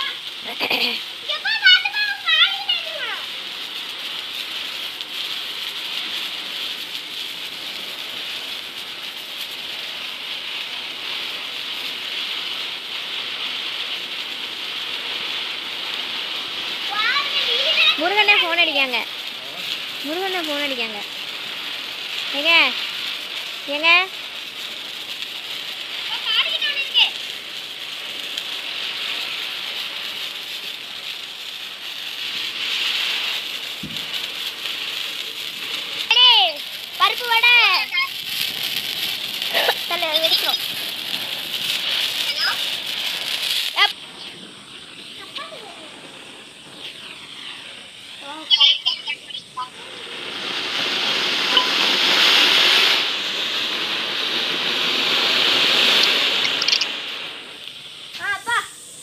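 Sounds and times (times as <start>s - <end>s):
crackling sparks: 0.0s - 59.0s
fountain fireworks spraying hiss: 0.0s - 59.0s.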